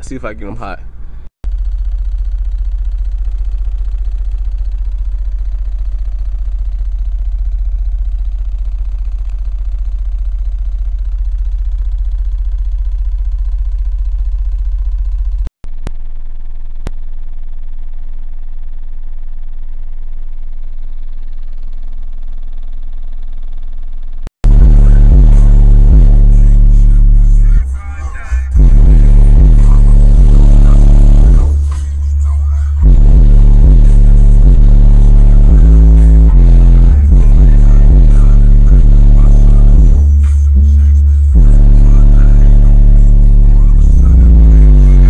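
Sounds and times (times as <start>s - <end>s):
subwoofer deep rumble tone: 0.0s - 45.0s.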